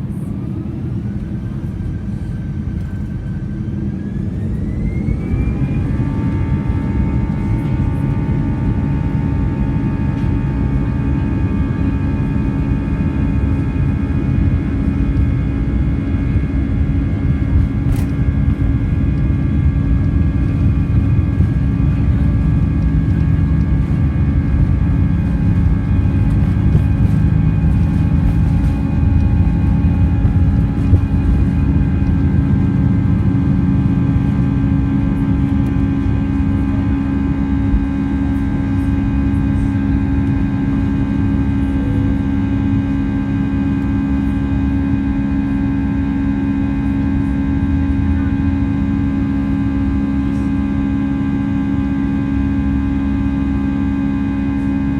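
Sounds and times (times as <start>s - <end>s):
aircraft cabin engine rumble: 0.0s - 54.9s.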